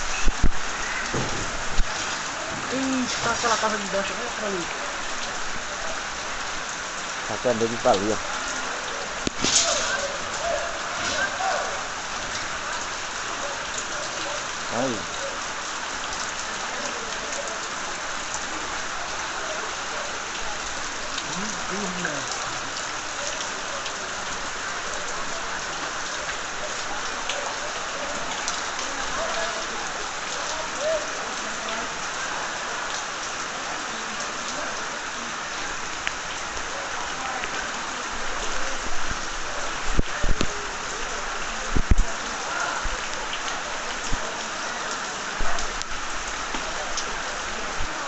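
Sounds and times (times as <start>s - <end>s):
rushing water: 0.0s - 48.0s
faint voices: 0.4s - 15.5s, 16.1s - 48.0s.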